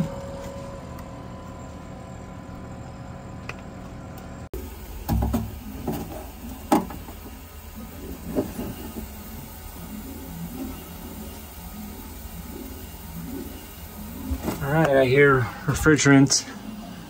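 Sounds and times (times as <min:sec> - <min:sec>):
refrigerator compressor humming: 0:00.0 - 0:17.0.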